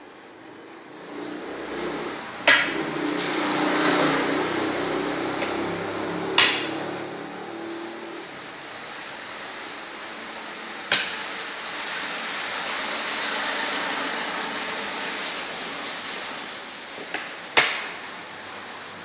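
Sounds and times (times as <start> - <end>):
room noise hum: 0.0 - 19.0.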